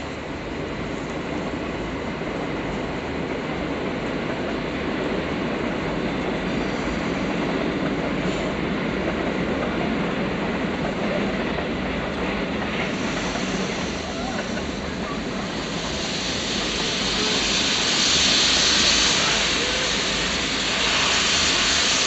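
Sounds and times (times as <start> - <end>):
steam locomotive rushing noise: 0.0 - 22.0.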